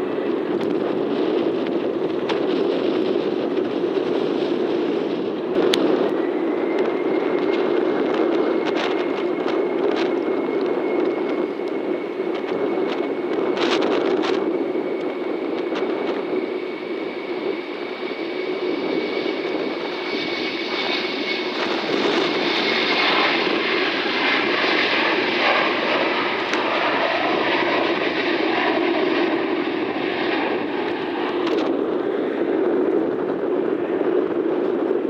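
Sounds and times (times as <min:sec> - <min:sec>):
jet engine high whine: 0:00.0 - 0:35.0.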